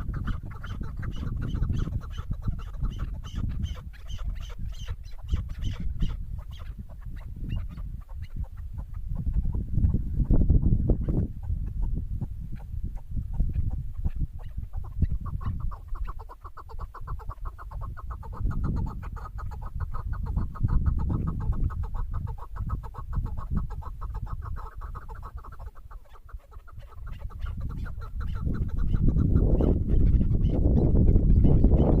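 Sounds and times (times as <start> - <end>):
partridge clucking call: 0.0 - 10.0, 12.6 - 32.0.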